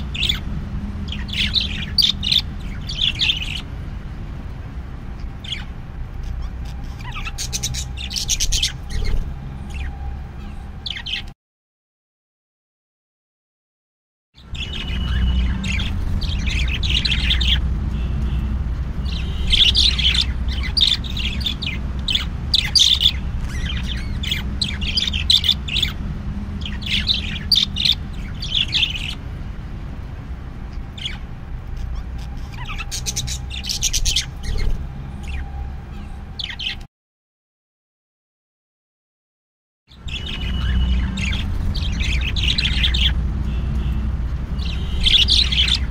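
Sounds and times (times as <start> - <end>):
birds chirping and squawking: 0.0 - 11.4, 14.4 - 36.9, 39.9 - 45.9.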